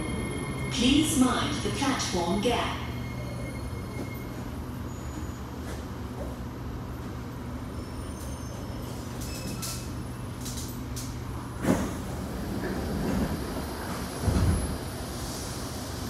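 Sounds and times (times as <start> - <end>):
metro train low hum: 0.0 - 16.0.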